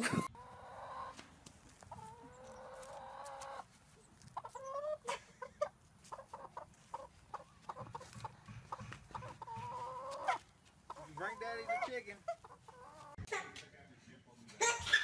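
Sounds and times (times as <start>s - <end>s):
hen squawking and clucking: 0.0s - 13.4s, 14.6s - 15.0s.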